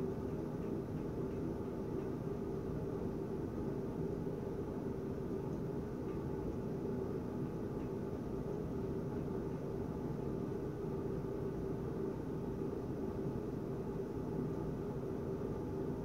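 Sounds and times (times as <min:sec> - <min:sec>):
faint constant tone: 0:00.0 - 0:16.0
low background hum: 0:00.0 - 0:16.0.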